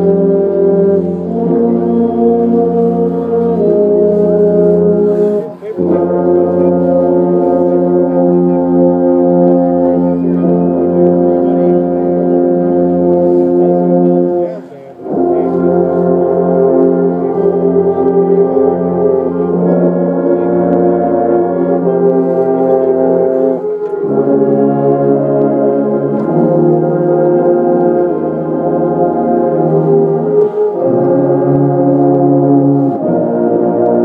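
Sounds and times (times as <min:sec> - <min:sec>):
brass band sustained chords: 0:00.0 - 0:34.0.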